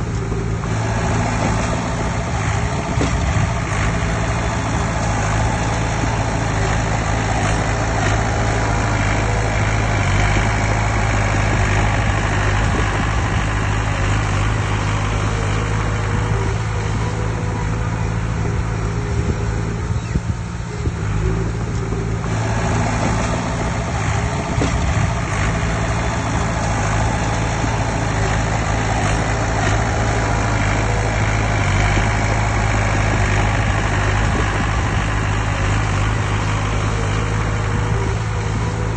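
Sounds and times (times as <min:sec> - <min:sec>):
diesel machinery engine hum: 0:00.0 - 0:38.9.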